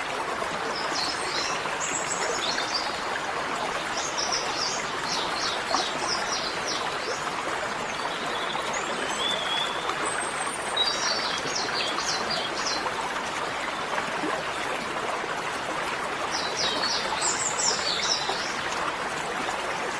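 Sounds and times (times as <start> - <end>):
running water: 0.0 - 19.9.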